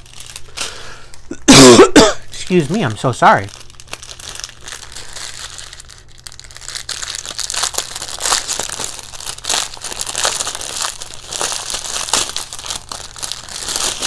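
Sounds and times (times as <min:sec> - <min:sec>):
plastic packaging crinkling: 0:00.0 - 0:01.3, 0:02.3 - 0:14.0.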